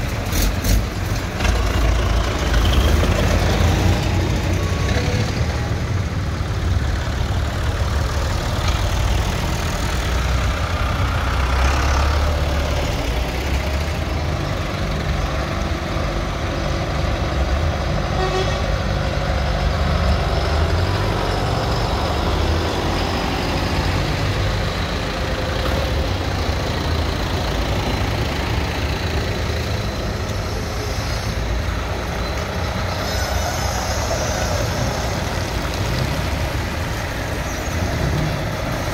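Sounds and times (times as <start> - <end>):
diesel engines driving past: 0.0 - 38.9.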